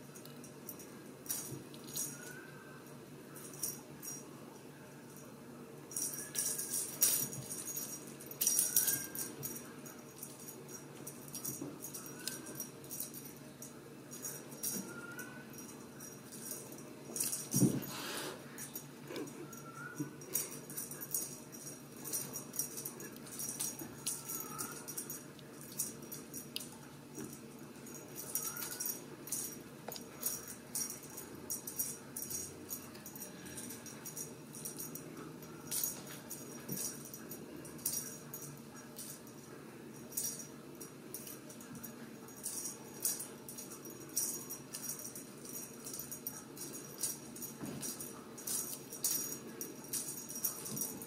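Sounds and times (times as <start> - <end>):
light jingling and rattling: 0.0 - 2.5, 5.9 - 51.0.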